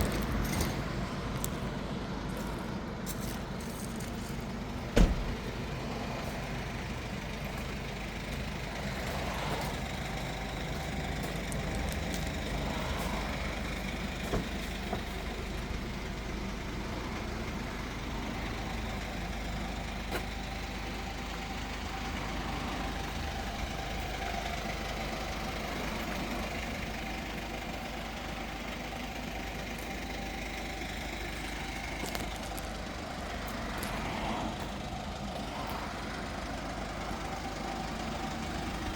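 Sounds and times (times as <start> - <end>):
diesel van engine idling: 0.0 - 38.9.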